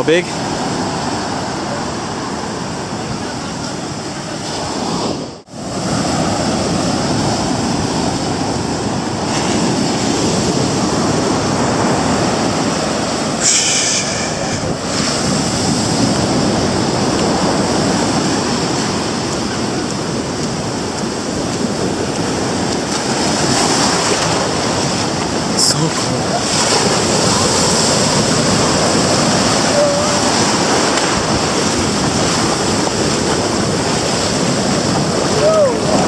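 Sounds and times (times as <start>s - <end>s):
ocean waves breaking: 0.0s - 36.0s.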